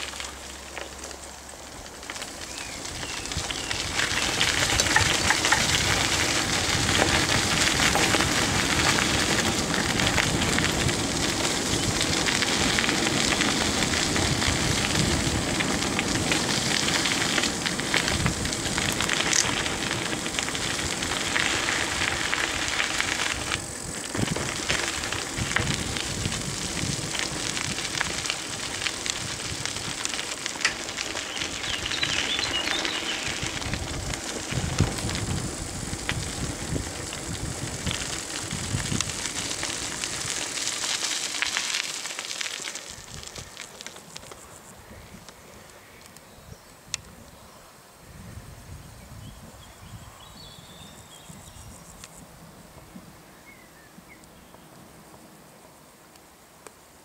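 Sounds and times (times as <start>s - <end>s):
bicycle rolling on rough path: 0.0s - 57.0s.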